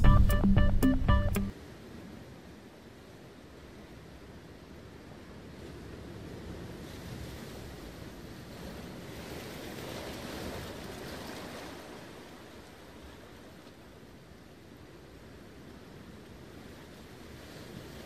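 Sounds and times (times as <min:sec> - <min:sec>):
sea waves washing in: 0:01.5 - 0:18.0.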